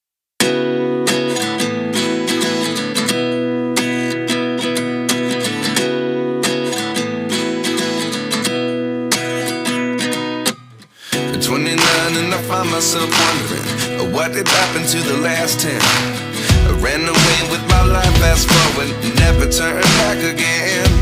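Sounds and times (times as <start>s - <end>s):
strummed acoustic guitar: 0.4s - 21.0s.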